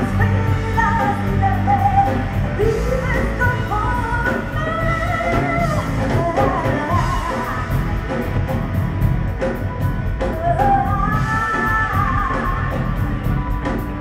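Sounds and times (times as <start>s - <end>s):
woman singing: 0.0s - 8.5s, 10.0s - 14.0s
live rock band: 0.0s - 14.0s.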